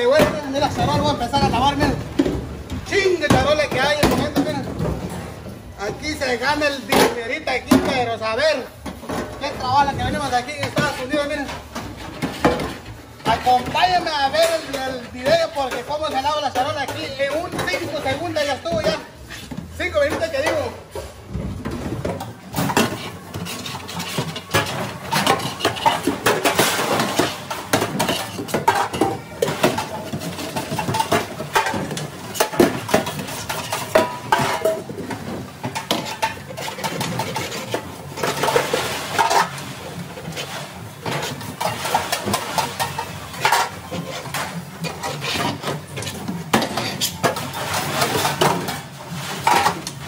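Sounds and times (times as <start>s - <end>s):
metal trays clattering in sink: 0.0s - 50.0s.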